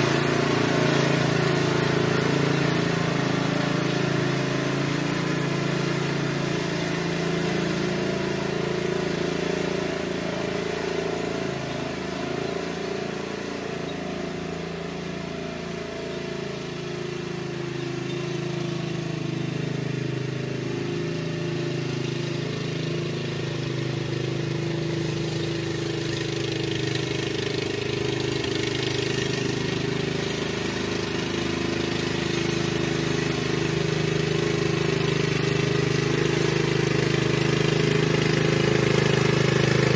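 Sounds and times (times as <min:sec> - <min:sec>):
riding lawn mower engine: 0:00.0 - 0:39.9.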